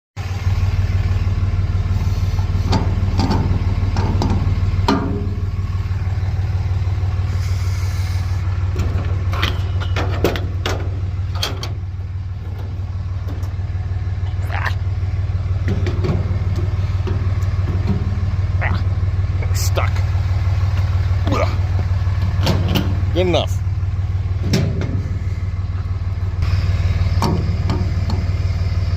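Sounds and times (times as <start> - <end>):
diesel engine idling: 0.2 - 28.9.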